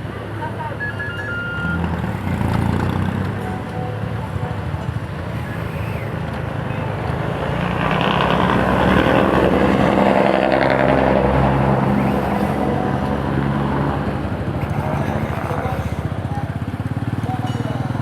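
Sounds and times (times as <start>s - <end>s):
motorcycle engine running: 1.8s - 18.0s.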